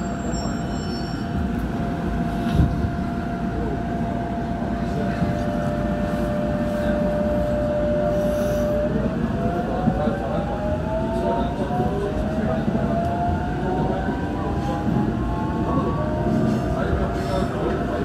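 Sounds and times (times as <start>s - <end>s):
train car rumble: 0.0s - 18.0s.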